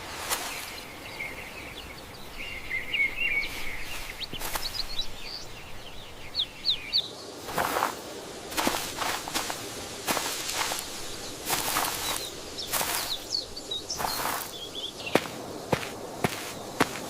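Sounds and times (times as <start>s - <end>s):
small birds chirping: 0.0s - 17.0s
steady background hiss: 0.0s - 17.0s.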